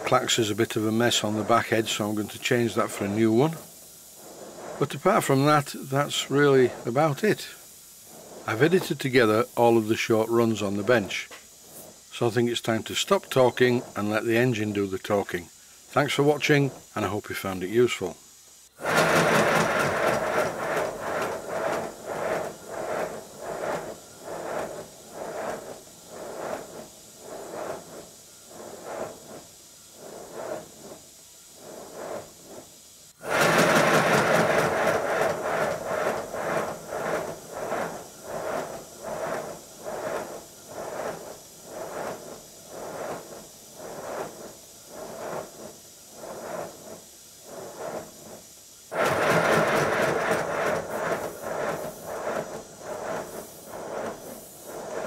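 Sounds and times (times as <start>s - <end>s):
model locomotive chuffing: 0.0s - 18.2s, 18.8s - 31.1s, 31.7s - 55.0s.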